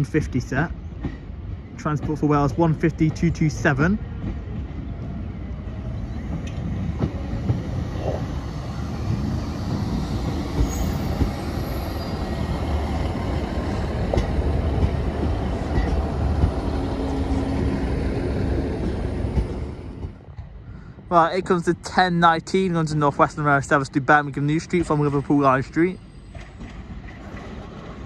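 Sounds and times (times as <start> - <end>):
train diesel engines running: 0.0 - 28.0
wheels rumbling on rail: 0.0 - 28.0.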